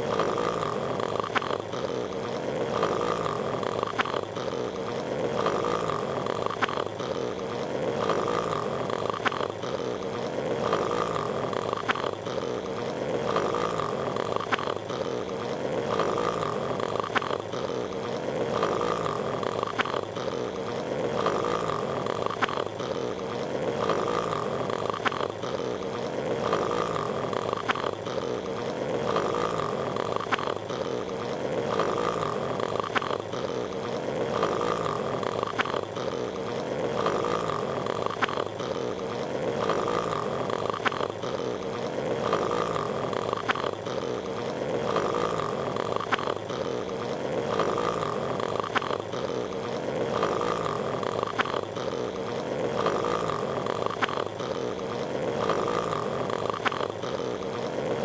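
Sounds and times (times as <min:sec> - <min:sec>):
cartoon snoring: 0:00.0 - 0:58.0
steady noise bed: 0:00.0 - 0:58.0.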